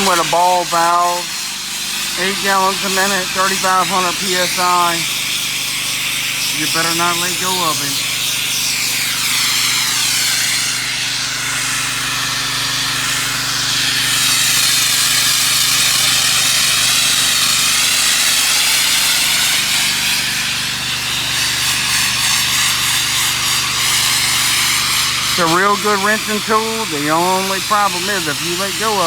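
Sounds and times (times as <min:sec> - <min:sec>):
high-pressure water hissing: 0:00.0 - 0:29.0
motor and pump humming: 0:00.0 - 0:29.0.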